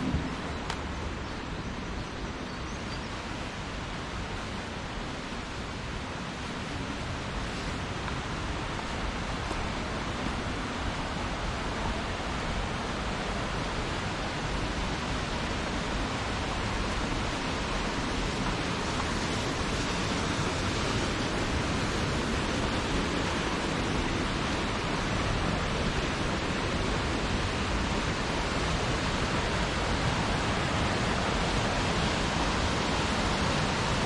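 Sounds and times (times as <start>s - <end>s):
waterfall rushing: 3.2s - 34.0s.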